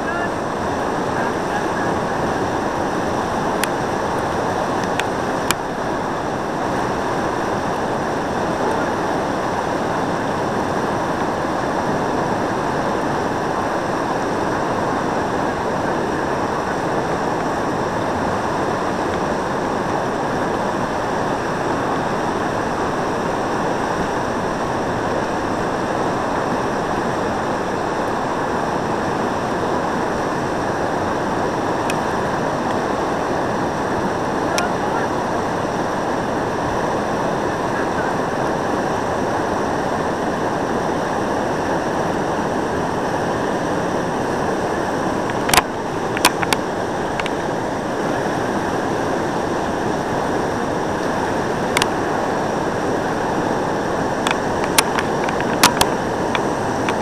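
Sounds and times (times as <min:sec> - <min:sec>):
whitewater rushing over ledge: 0:00.0 - 0:57.0.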